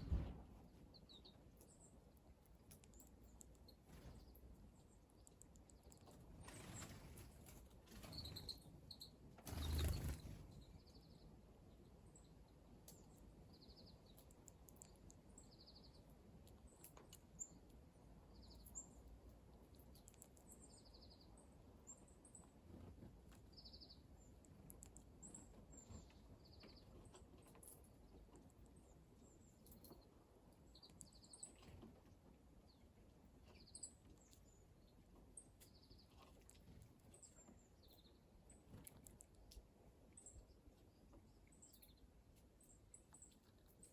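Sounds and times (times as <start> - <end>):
songbirds chirping: 0.0 - 43.9.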